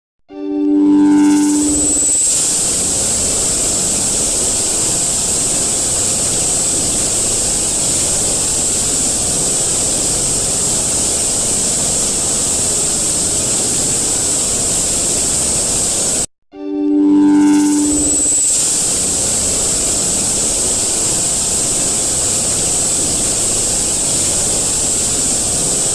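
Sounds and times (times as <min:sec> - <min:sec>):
high whine: 0:00.4 - 0:25.9
loud static hiss: 0:01.5 - 0:16.3, 0:17.5 - 0:25.9.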